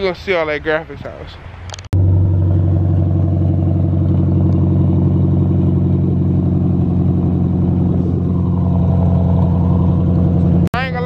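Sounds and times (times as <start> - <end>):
car engine idling: 2.0 - 11.0.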